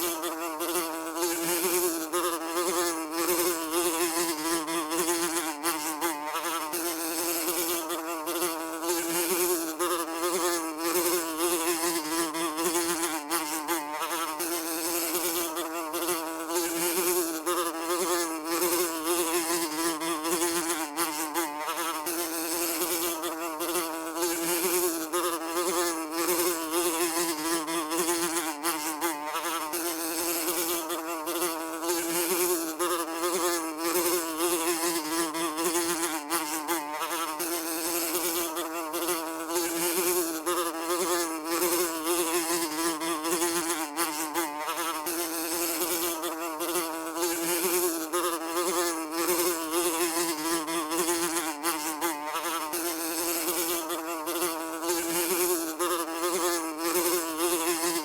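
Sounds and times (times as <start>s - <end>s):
fly buzzing: 0.0s - 58.0s.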